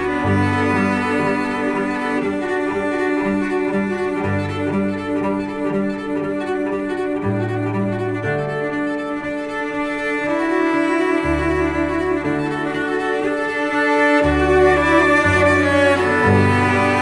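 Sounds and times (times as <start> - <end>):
bowed string music: 0.0 - 17.0.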